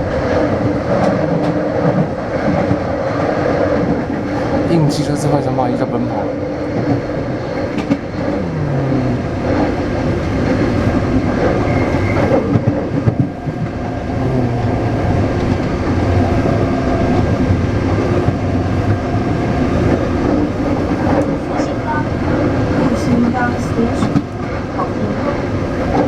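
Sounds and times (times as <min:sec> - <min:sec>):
train traction motor whine: 0:00.0 - 0:26.0
wheels running on track: 0:00.0 - 0:26.0.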